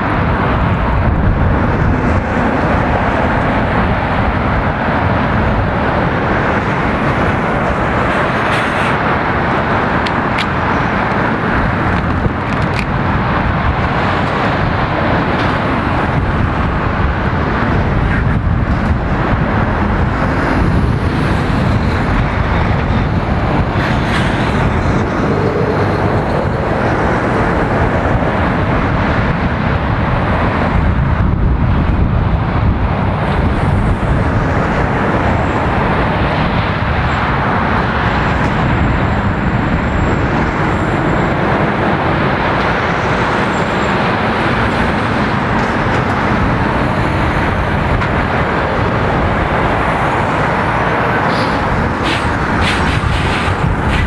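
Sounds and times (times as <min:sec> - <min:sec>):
loud road traffic: 0:00.0 - 0:54.0.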